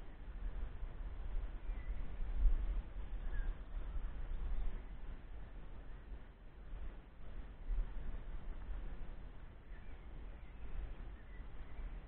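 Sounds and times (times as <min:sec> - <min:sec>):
low rumble on microphone: 0:00.0 - 0:12.0.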